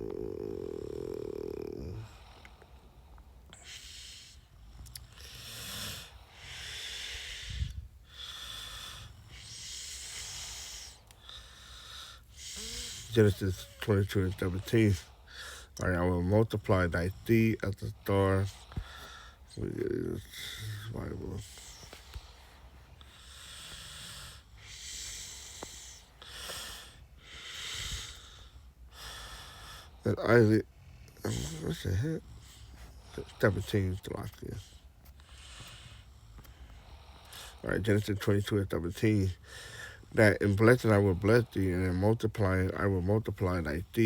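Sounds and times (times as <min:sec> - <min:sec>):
person breathing: 0:00.0 - 0:15.8, 0:16.6 - 0:37.7, 0:39.3 - 0:40.2.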